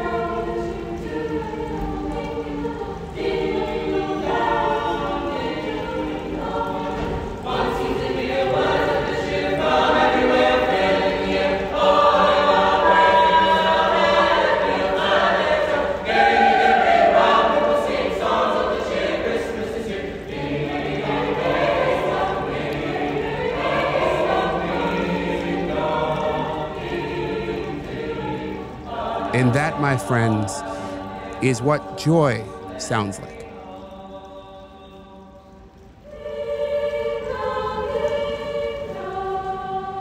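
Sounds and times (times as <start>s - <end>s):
children's choir singing a carol: 0.0s - 40.0s.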